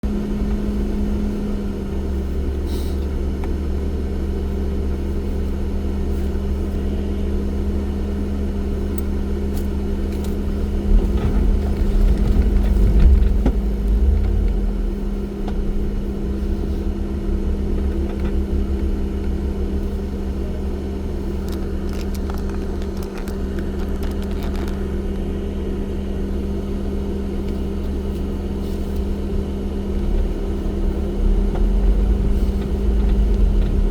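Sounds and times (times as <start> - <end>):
off-road vehicle engine running: 0.0 - 33.9.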